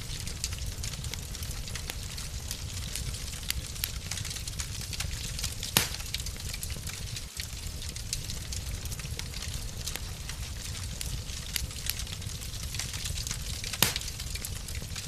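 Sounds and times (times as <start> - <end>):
fire snapping and popping: 0.0 - 15.0
wood fire crackling: 0.0 - 15.0.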